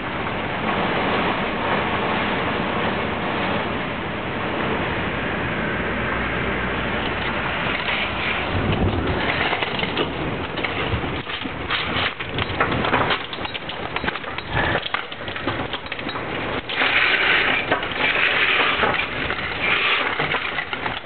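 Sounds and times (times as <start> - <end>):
heavy rain: 0.0 - 21.0
wind: 0.0 - 21.0.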